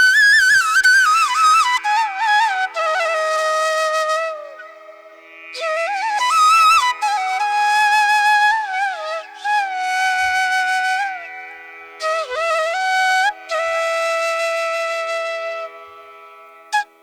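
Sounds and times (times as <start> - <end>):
flute-like wind instrument melody: 0.0 - 17.0.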